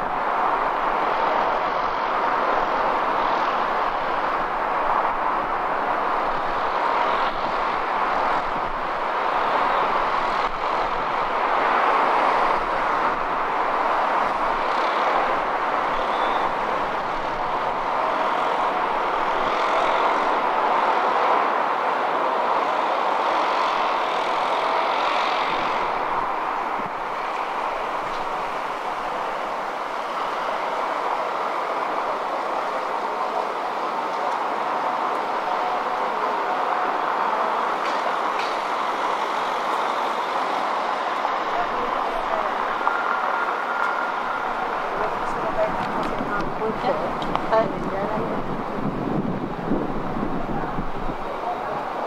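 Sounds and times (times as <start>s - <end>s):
road traffic rushing: 0.0s - 52.0s.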